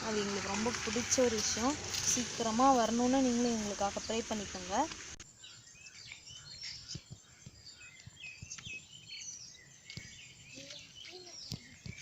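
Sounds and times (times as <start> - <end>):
faint outdoor background noise: 0.0 - 12.0
small birds chirping: 0.0 - 12.0.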